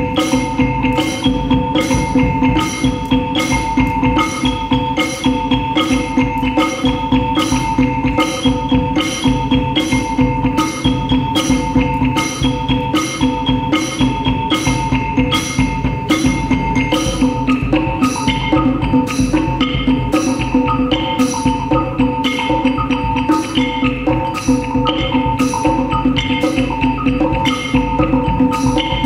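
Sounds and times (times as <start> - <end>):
percussion struck notes: 0.0 - 29.0
sustained ringing tones: 0.0 - 29.0.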